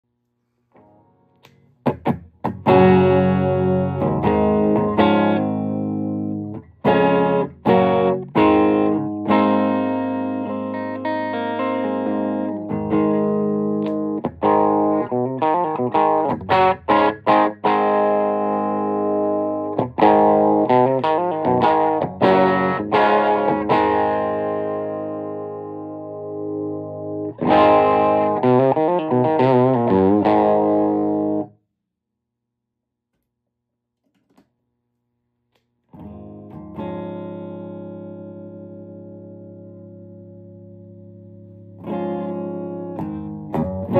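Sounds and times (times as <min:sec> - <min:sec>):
electric guitar chords ringing: 0:00.8 - 0:31.5, 0:36.0 - 0:43.9.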